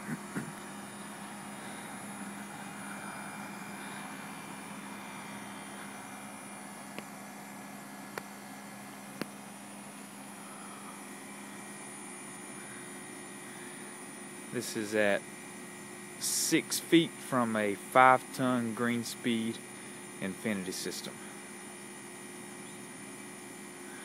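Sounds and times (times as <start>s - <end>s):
heat pump fan whoosh and hum: 0.0s - 24.0s.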